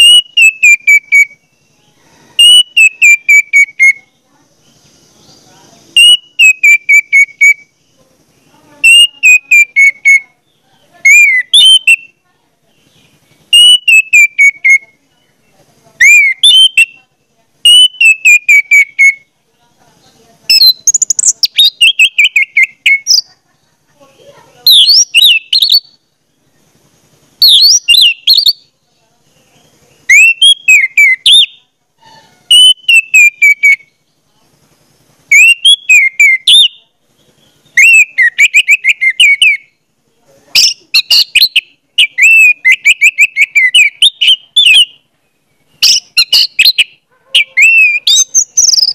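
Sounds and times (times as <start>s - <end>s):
songbird chirping and whistling: 0.0s - 23.7s, 24.5s - 26.8s, 27.4s - 34.4s, 35.2s - 39.8s, 40.5s - 48.9s.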